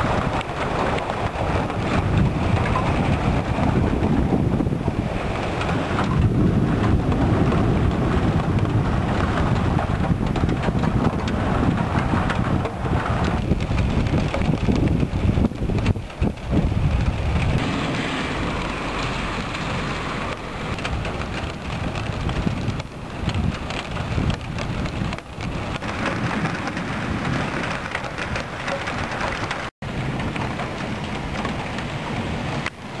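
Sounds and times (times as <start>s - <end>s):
heavy rain: 0.0s - 33.0s
thunder rumbling: 0.0s - 33.0s.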